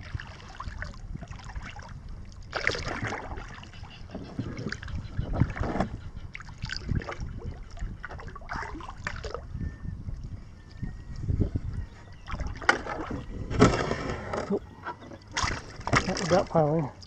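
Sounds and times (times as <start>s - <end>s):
paddle strokes splashing water: 0.0s - 9.4s, 12.2s - 17.0s
wind rumble on microphone: 0.0s - 17.0s.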